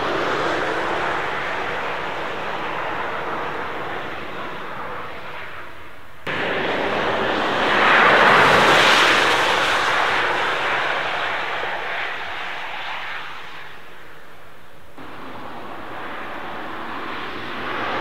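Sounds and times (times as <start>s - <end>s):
car passing with tyre and wind rush: 0.0s - 18.0s.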